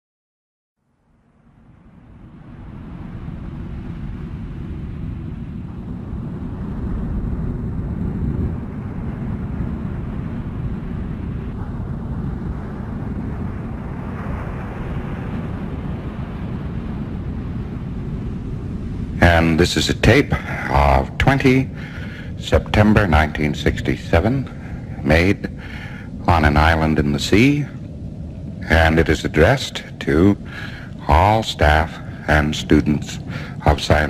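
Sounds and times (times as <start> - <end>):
wind howling: 0.9 - 34.0.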